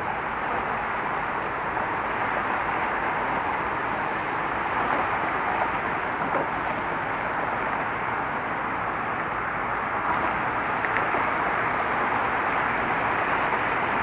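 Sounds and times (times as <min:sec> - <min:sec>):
traffic crossing a bridge: 0:00.0 - 0:14.0.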